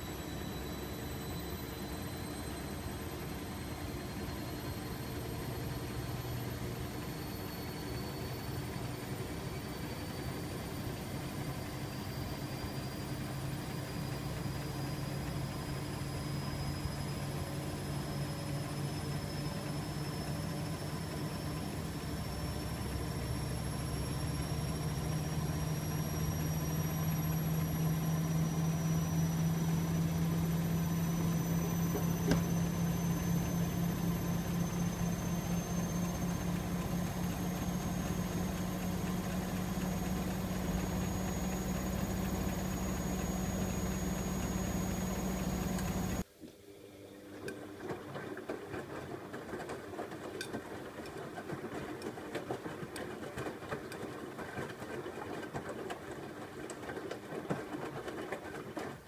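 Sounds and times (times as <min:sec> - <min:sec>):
washing machine spinning: 0:00.0 - 0:46.3, 0:47.0 - 0:59.0.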